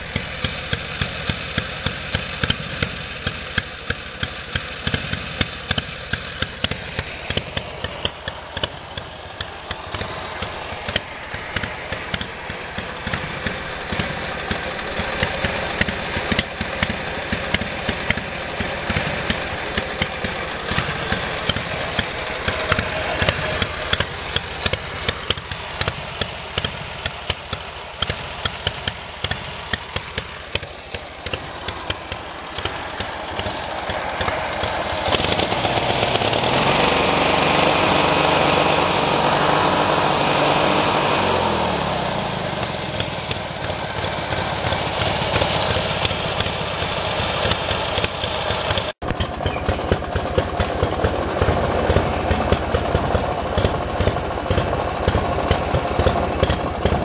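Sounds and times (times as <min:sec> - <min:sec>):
small engine popping exhaust: 0:00.0 - 0:57.0.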